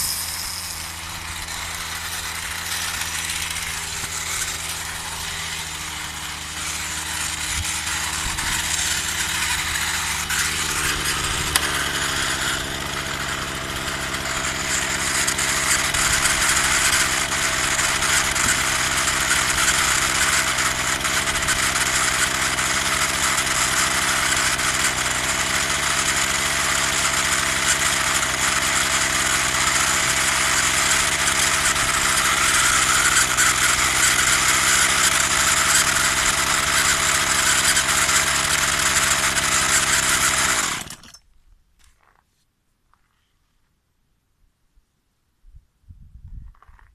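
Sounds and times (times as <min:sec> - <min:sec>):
chainsaw engine idling: 0:00.0 - 0:41.2.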